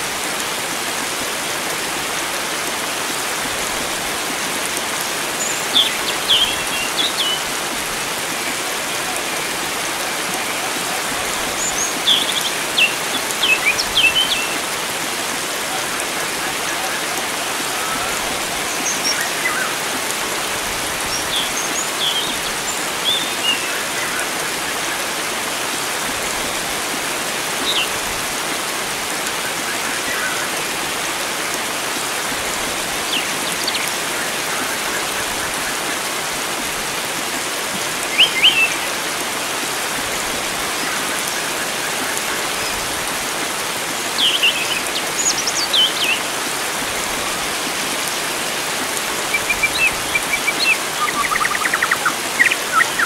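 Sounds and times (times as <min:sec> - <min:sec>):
flowing water: 0:00.0 - 0:53.0
birds chirping: 0:03.1 - 0:26.5, 0:27.3 - 0:31.6, 0:32.6 - 0:36.7, 0:37.8 - 0:43.2, 0:44.0 - 0:53.0.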